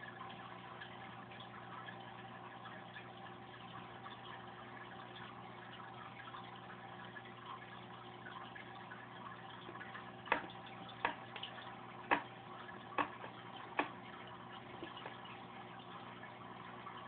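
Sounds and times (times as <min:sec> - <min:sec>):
aquarium pump humming: 0:00.0 - 0:17.0
water bubbling and trickling: 0:00.0 - 0:17.0.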